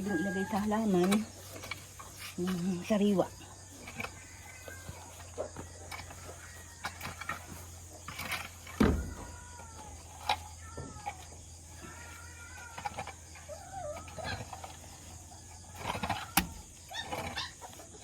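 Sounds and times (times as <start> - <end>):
rake scraping dry manure: 0.0 - 18.0.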